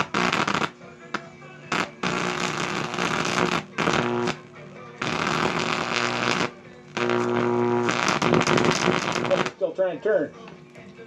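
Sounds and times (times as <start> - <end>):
crackling buzzing electric arc: 0.0 - 9.8
electrical hum: 0.0 - 11.0.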